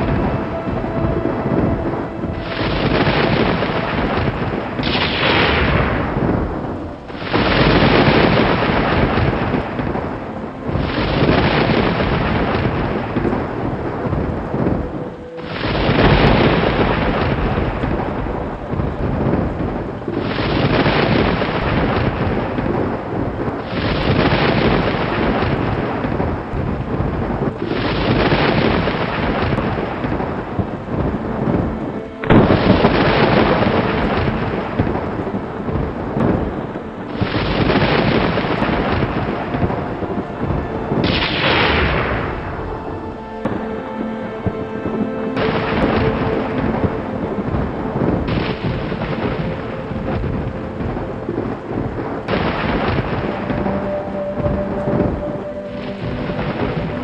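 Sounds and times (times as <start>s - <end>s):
thunder crashing and rolling: 0.0s - 57.0s.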